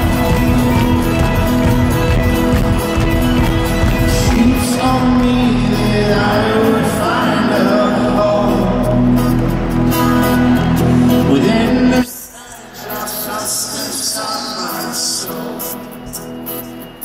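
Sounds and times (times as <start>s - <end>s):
live folk-rock band: 0.0s - 17.0s.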